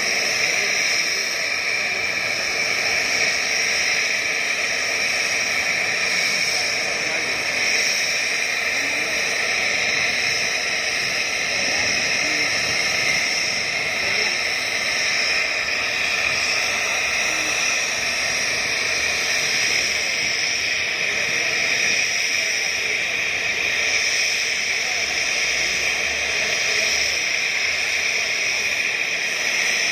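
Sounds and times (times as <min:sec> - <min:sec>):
helicopter turbine engines whining: 0:00.0 - 0:29.9.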